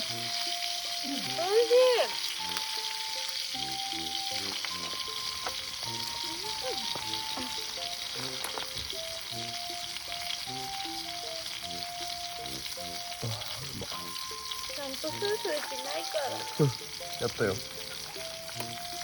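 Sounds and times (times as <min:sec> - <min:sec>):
light background melody: 0:00.0 - 0:19.0
meat sizzling in a pan: 0:00.0 - 0:19.0.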